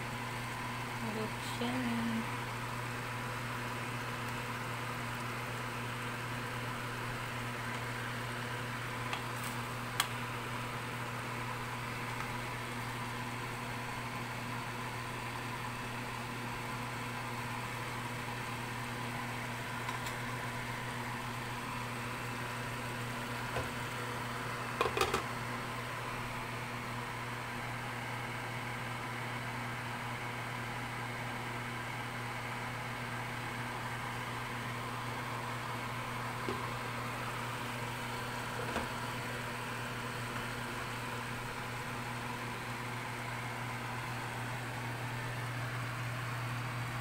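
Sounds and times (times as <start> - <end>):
fan motor hum with hiss: 0.0 - 47.0.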